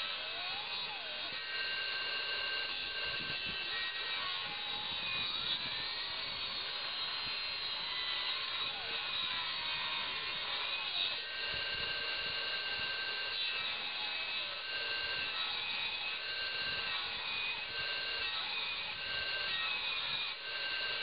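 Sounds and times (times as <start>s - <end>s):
circular saw cutting branch: 0.0s - 21.0s.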